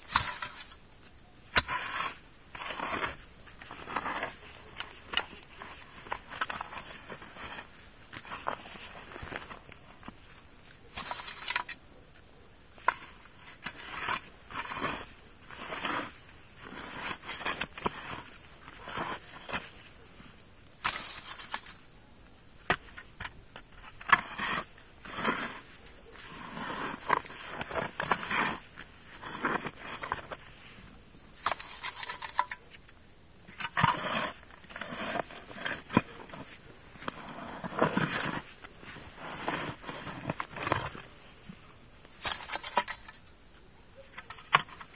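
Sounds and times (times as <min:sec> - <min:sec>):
auger scraping through soil: 0:00.0 - 0:00.8, 0:01.5 - 0:11.8, 0:12.7 - 0:22.0, 0:22.6 - 0:32.8, 0:33.5 - 0:43.3, 0:44.0 - 0:44.9.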